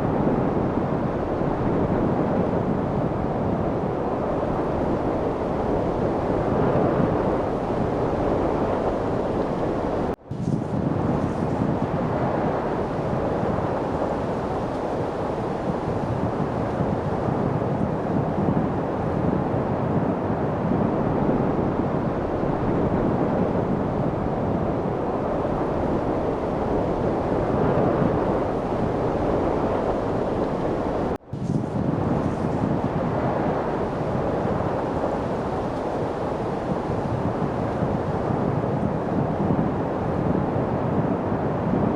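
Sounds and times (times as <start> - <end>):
rushing wind: 0.0 - 41.9.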